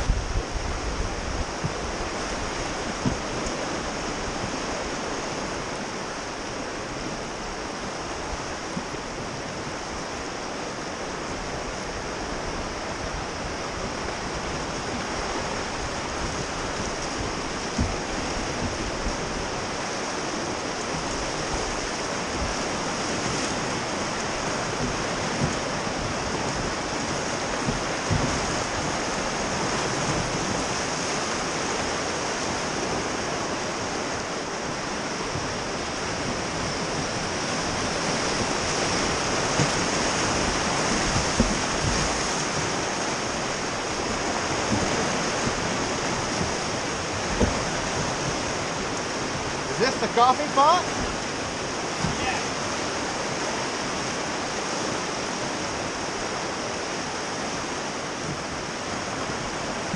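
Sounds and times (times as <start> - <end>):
whitewater rushing: 0.0 - 59.9.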